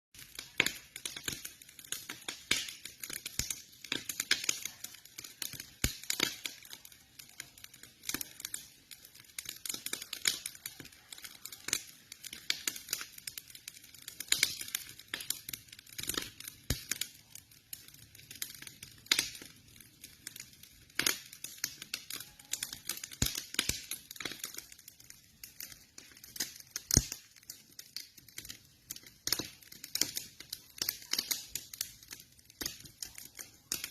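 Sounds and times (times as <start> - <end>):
campfire crackling and popping: 0.1 - 33.9.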